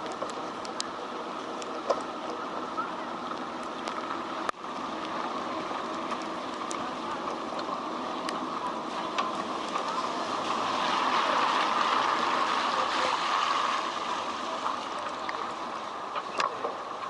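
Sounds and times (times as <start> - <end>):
heavy rain on wet street: 0.0 - 17.0.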